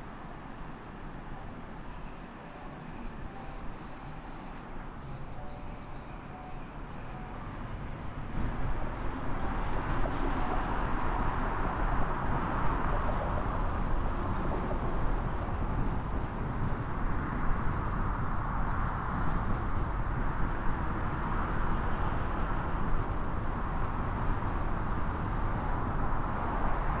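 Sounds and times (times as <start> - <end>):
traffic and road noise: 0.0 - 27.0.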